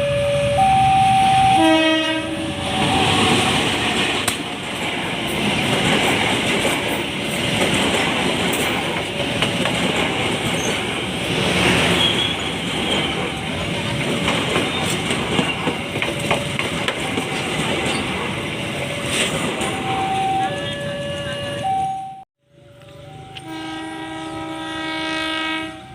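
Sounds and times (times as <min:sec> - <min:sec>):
train wheels rumbling on rails: 0:00.0 - 0:21.7.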